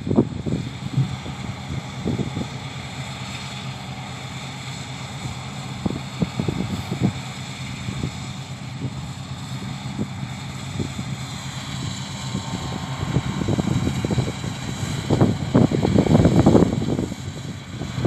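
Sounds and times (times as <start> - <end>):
wind buffeting microphone: 0.0 - 3.0, 5.2 - 18.0
combine harvester engine drone: 0.0 - 18.0
faint machinery whine: 0.0 - 18.0.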